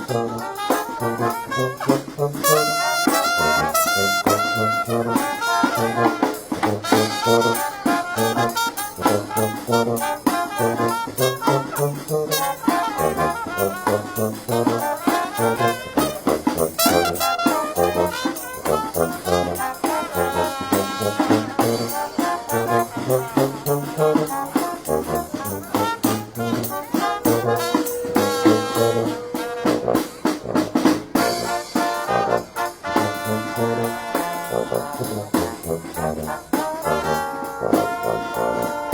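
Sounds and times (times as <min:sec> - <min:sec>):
brass band playing jazzy tune: 0:00.0 - 0:38.9.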